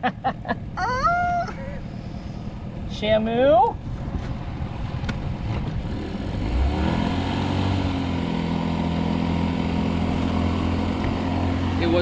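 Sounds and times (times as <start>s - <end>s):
outboard motor running: 0.6s - 12.0s.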